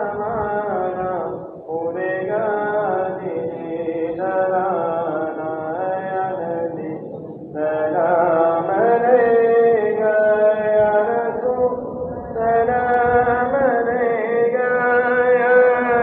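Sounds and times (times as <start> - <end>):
person chanting: 0.0 - 16.0.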